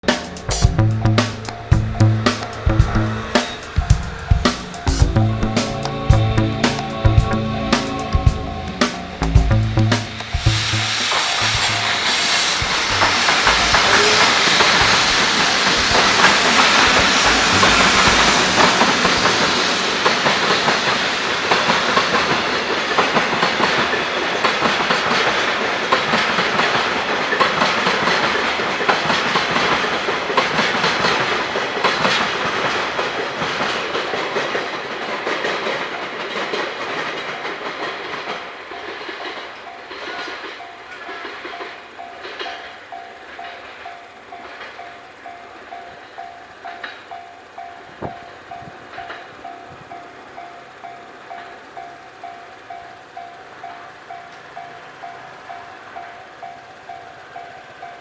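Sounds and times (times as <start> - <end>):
freight train wheels clacking: 0.0 - 58.0.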